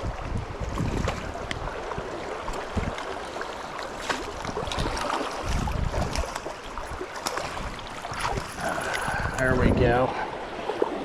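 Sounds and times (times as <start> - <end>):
wind rumbling on microphone: 0.0 - 3.4, 4.1 - 11.0
river water rushing: 0.8 - 11.0.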